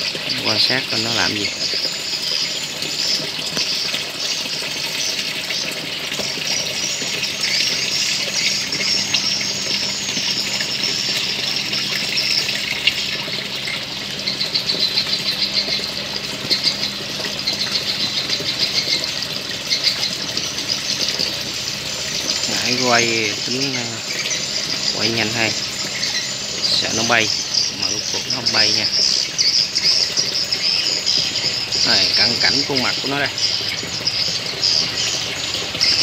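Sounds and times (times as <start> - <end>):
running water rushing: 0.0 - 36.0
high chirping: 6.2 - 21.4, 22.0 - 36.0.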